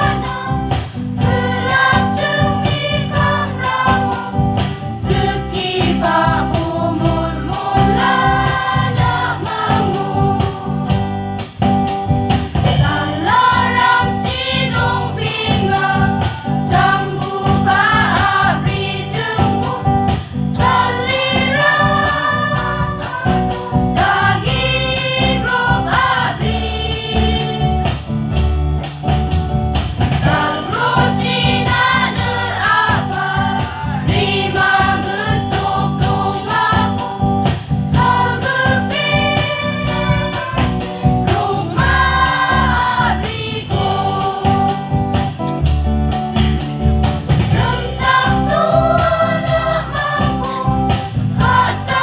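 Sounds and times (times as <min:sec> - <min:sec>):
women singing together: 0:00.0 - 0:11.1, 0:12.8 - 0:28.0, 0:30.2 - 0:44.9, 0:47.5 - 0:52.0
electric guitar: 0:00.0 - 0:52.0.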